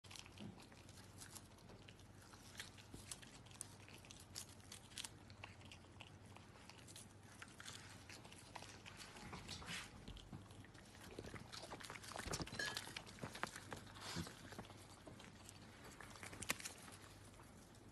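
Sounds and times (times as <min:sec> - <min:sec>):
raccoon chewing and crunching: 0:00.0 - 0:17.9.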